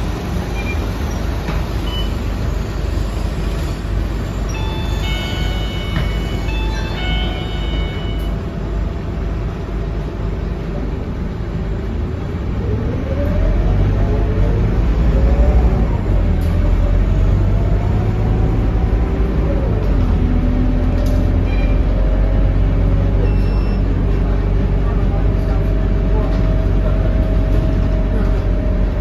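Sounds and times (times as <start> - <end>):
bus diesel engine: 0.0 - 29.0.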